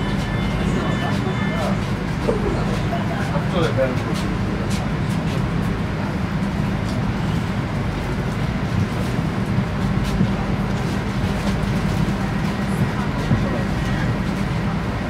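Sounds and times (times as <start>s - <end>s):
electric train rumble and hum: 0.0s - 15.0s
footsteps of passengers: 0.0s - 15.0s.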